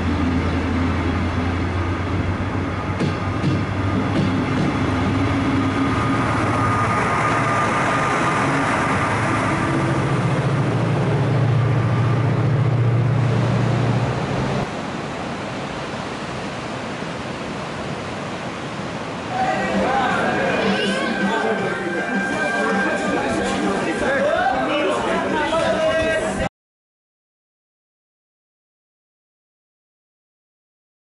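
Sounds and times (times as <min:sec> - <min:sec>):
train rumbling past: 0:00.0 - 0:26.4
sea surf: 0:00.0 - 0:26.5.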